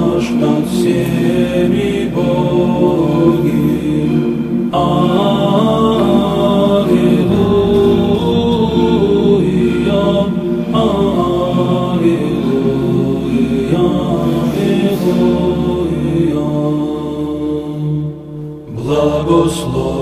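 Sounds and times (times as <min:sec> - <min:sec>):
slow chant-like singing: 0:00.0 - 0:20.0
steady low drone: 0:00.0 - 0:20.0.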